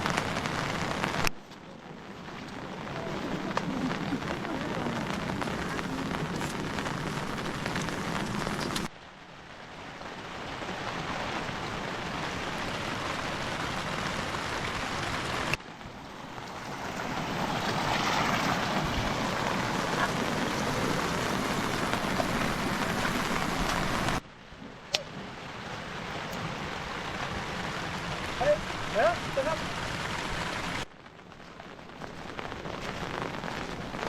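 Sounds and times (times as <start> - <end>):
running water: 0.0 - 9.0, 9.8 - 30.9
rain hissing: 0.0 - 34.0.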